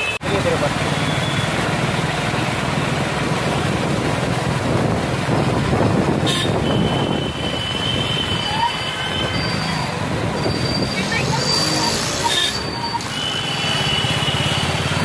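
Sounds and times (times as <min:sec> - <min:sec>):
traffic engines humming: 0:00.0 - 0:15.0
tyres rushing on wet road: 0:00.0 - 0:15.0.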